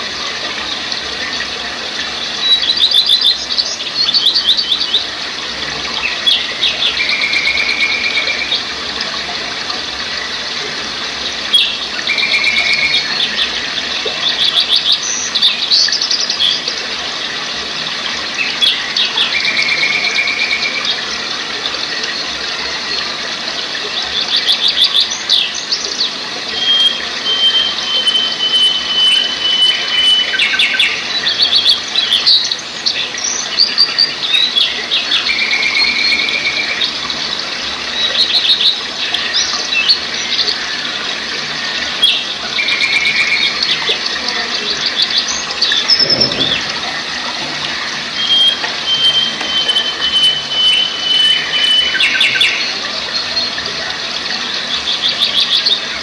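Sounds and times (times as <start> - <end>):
songbirds singing: 0.0 - 56.0
stream rushing over rocks: 0.0 - 56.0.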